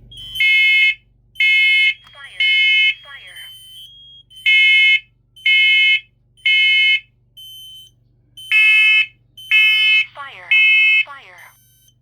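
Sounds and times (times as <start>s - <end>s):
smoke alarms beeping: 0.0s - 12.0s.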